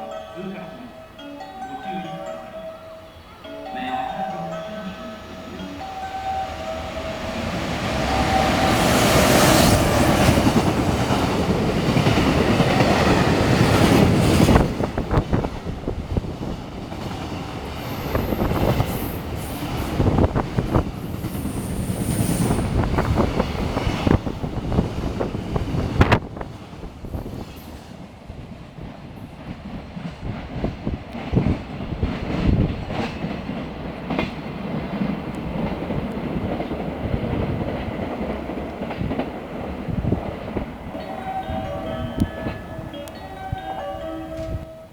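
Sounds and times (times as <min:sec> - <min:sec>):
freight train rushing past: 0:00.0 - 0:44.9.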